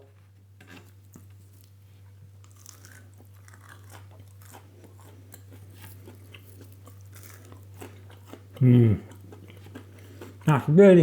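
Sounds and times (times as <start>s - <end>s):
crunchy food chewing: 0.6s - 10.6s.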